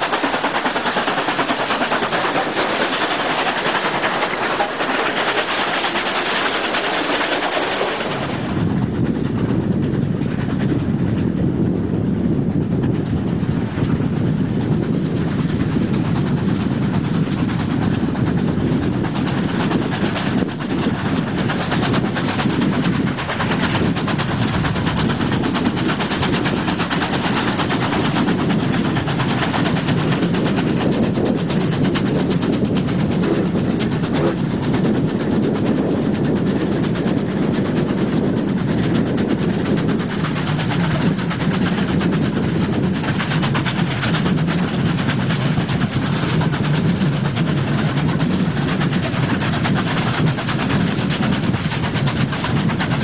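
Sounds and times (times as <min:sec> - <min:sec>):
steam locomotive exhaust beat: 0:00.0 - 0:53.0.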